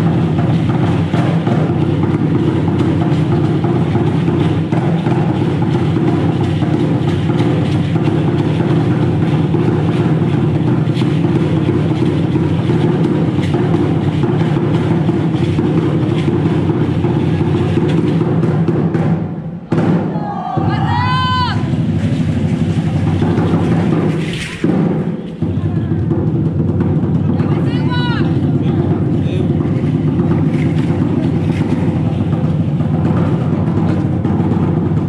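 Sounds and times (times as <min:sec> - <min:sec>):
fast drumming on large drum: 0:00.0 - 0:35.0.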